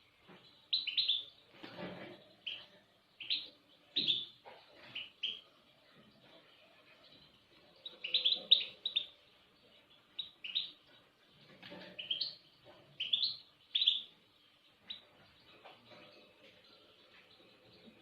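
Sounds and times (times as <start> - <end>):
small songbird chirping: 0.0 - 18.0.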